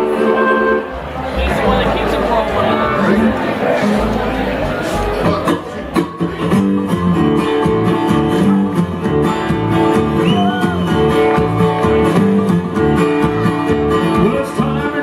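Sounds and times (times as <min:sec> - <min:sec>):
bluegrass band playing: 0:00.0 - 0:15.0
strummed acoustic guitar: 0:00.0 - 0:15.0.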